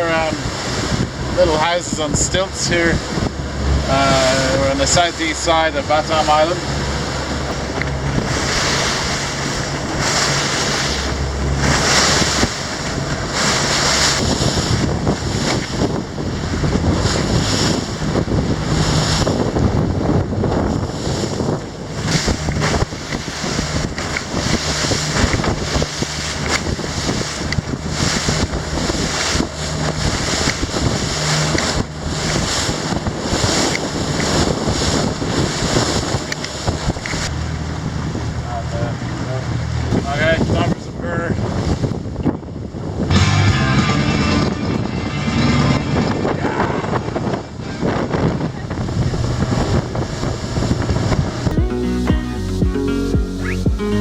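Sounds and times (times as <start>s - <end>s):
wind buffeting microphone: 0.0s - 52.8s
outboard engine drone: 0.0s - 54.0s
water rushing along hull: 0.0s - 54.0s.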